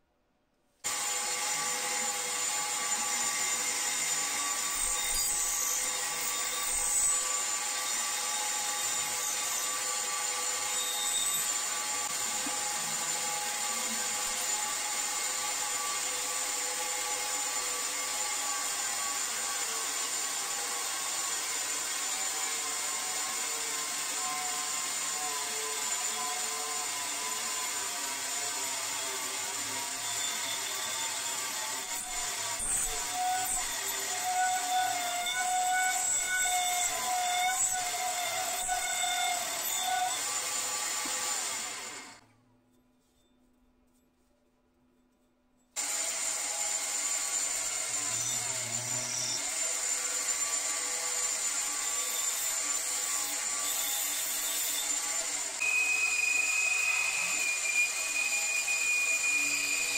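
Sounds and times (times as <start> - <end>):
electric power tool whining: 0.9 - 42.2, 45.8 - 59.9.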